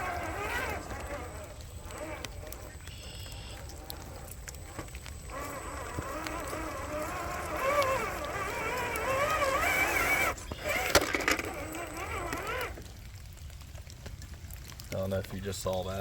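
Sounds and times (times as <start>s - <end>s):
electric motor and gears whining: 0.0s - 12.9s
rain pattering: 0.0s - 16.0s.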